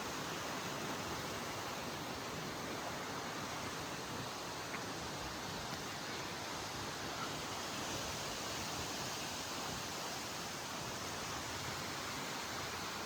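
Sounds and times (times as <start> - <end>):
outdoor ambience hiss: 0.0 - 13.0.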